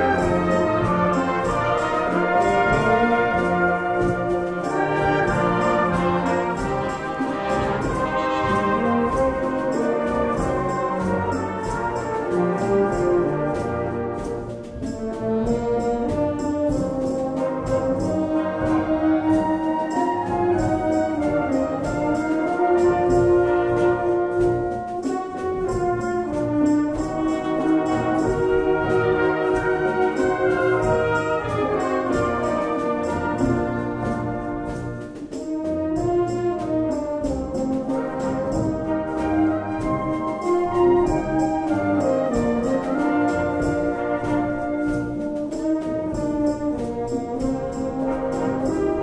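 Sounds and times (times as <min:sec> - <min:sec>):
brass melody: 0:00.0 - 0:49.0
percussion beat: 0:00.0 - 0:49.0.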